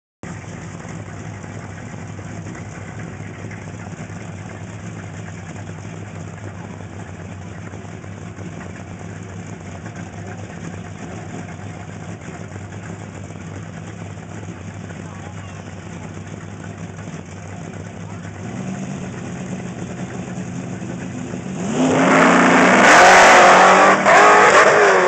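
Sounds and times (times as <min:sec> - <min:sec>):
car engine idling: 0:00.2 - 0:25.0.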